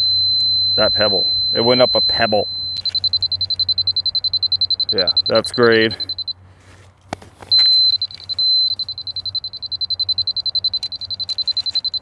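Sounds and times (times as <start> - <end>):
laser receiver beeping: 0.0 - 6.4, 7.5 - 12.0.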